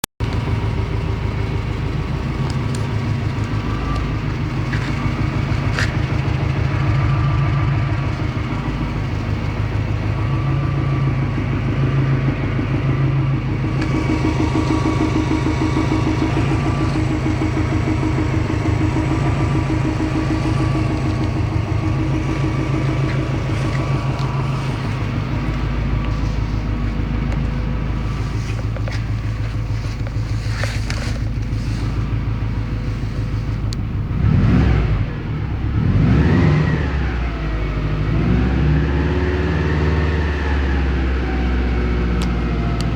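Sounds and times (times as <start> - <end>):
car engine running steadily: 0.2 - 42.9.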